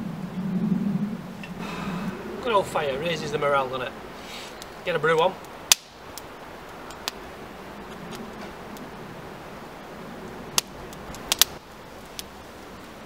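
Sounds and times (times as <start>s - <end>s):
wood fire crackling and popping: 1.3s - 13.0s.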